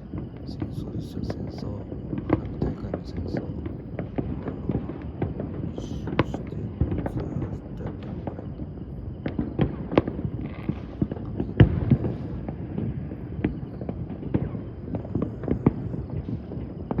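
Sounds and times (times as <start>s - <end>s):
fireworks bangs and crackles: 0.0s - 17.0s
rumble of distant explosions: 0.0s - 17.0s.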